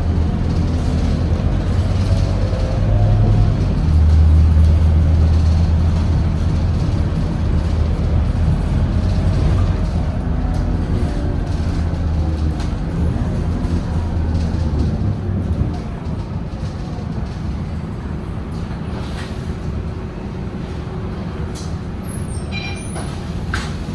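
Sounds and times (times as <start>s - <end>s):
bus diesel engine droning: 0.0s - 23.9s.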